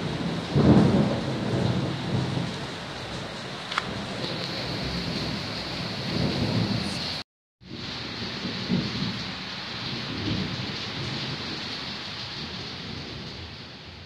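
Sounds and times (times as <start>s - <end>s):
heavy rain hiss: 0.0s - 14.0s
rolling thunder rumble: 0.0s - 14.0s.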